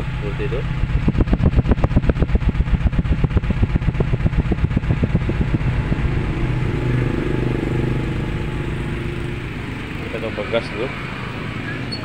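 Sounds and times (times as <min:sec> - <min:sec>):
rough idling exhaust puffing: 0:00.0 - 0:12.0.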